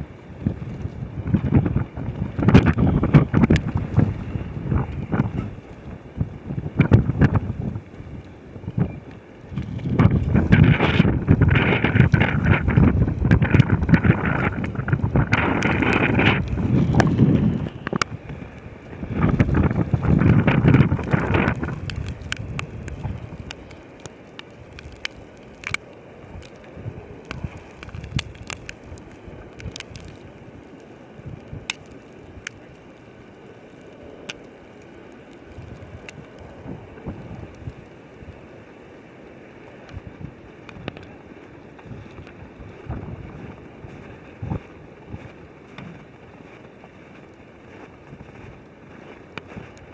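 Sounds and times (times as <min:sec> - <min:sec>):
wind gusting against microphone: 0:00.0 - 0:49.9
small ticks: 0:02.4 - 0:06.0, 0:06.8 - 0:38.4, 0:39.8 - 0:41.1, 0:41.8 - 0:49.9.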